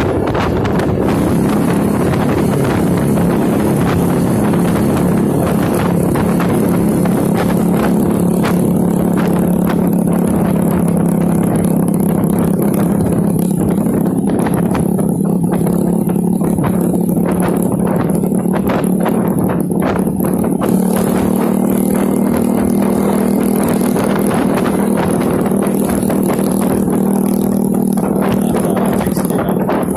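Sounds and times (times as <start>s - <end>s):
motorcycle engine droning: 0.0s - 29.9s
wind and road noise: 0.0s - 29.9s.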